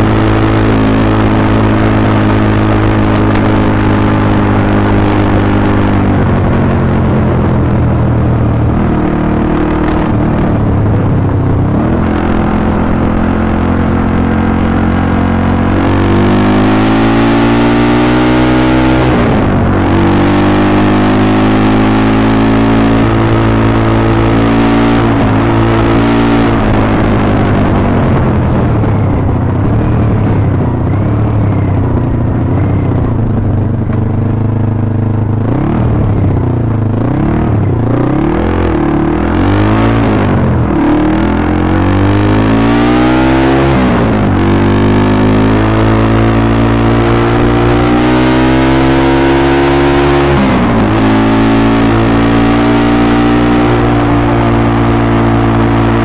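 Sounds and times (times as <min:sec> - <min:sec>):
motorbike engine revving: 0:00.0 - 0:56.0
wind rush on microphone: 0:00.0 - 0:56.0.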